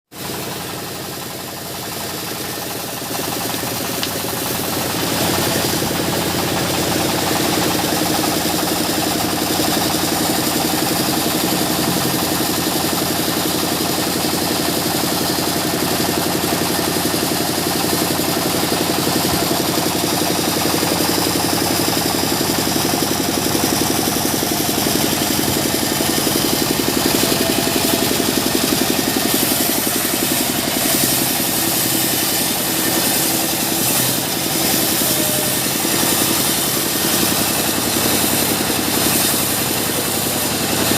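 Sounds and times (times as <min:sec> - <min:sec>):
sawmill saw humming: 0:00.2 - 0:40.9.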